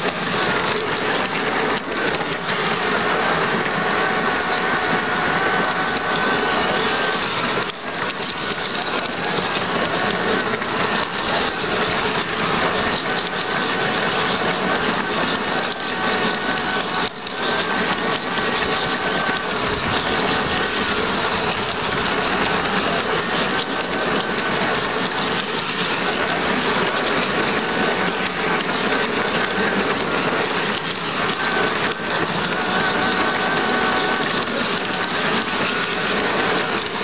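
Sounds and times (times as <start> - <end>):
model train motor whirring: 0.0 - 37.0
wheels on rails: 0.0 - 37.0.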